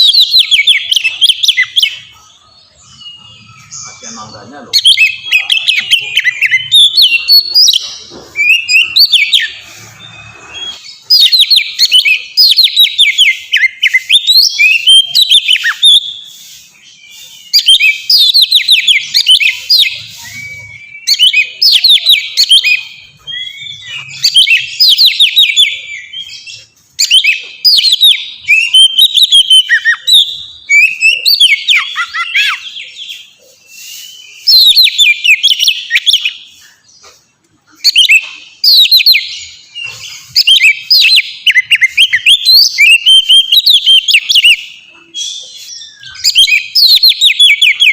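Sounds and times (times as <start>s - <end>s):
bird singing whistled notes: 0.0s - 47.9s.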